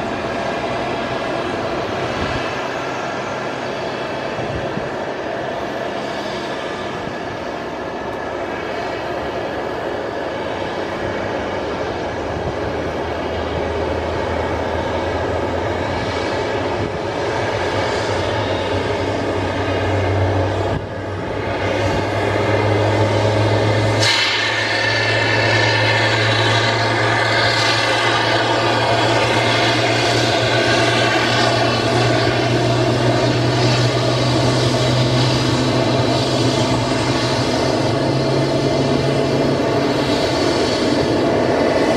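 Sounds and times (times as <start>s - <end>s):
jet engines humming: 0.0s - 41.9s.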